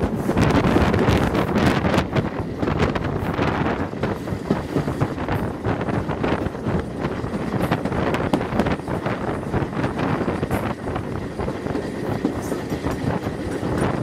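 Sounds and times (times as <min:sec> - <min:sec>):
train running noise: 0:00.0 - 0:14.0
wheels clicking on track: 0:00.0 - 0:14.0
wind buffeting a microphone: 0:00.0 - 0:14.0.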